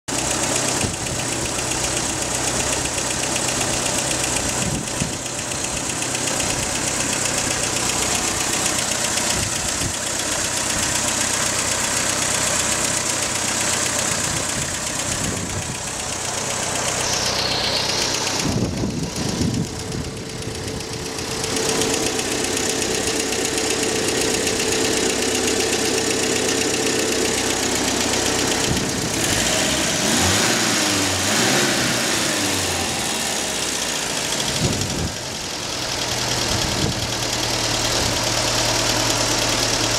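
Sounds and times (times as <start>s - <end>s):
car engine running: 0.1s - 39.9s.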